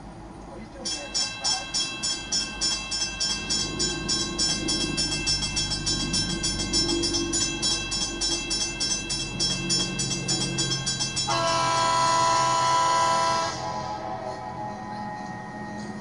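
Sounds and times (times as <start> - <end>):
crossing signal bell ringing: 0.7 - 16.0.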